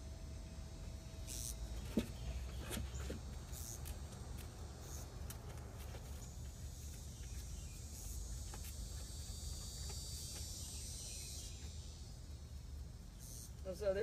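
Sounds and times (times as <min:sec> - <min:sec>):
faint high-pitched insect buzzing: 0:00.4 - 0:14.0.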